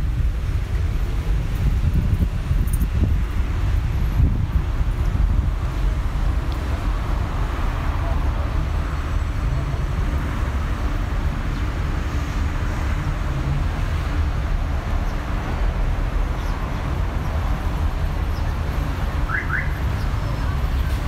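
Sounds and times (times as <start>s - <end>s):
passing cars rumbling: 0.0s - 21.0s.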